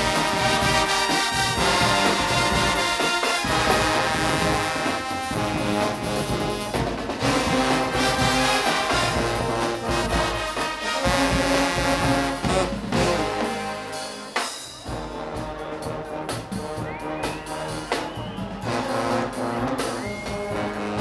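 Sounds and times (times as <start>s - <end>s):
brass band playing loudly: 0.0s - 21.0s
drums: 0.0s - 21.0s
trombones and trumpets: 0.0s - 21.0s.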